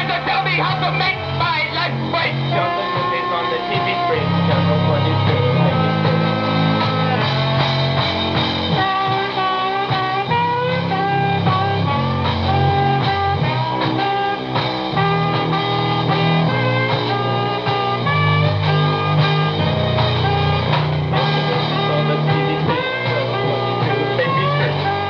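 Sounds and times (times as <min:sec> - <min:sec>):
rock music with electric guitar: 0:00.0 - 0:25.0.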